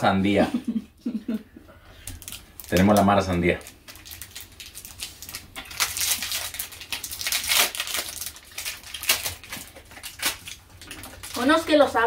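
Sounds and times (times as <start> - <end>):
wrapper crinkling and tearing: 2.0 - 12.0.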